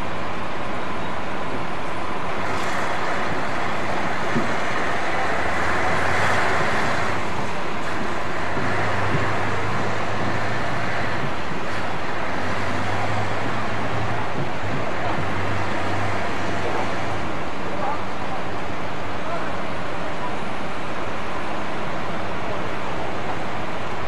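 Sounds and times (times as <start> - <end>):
crane diesel engines running: 0.0 - 24.0.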